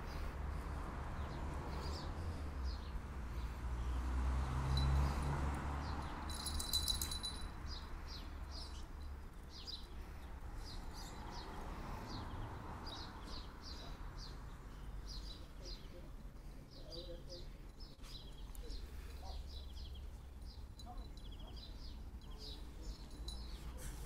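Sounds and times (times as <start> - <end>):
small birds chirping: 0.0 - 4.2, 4.8 - 24.0.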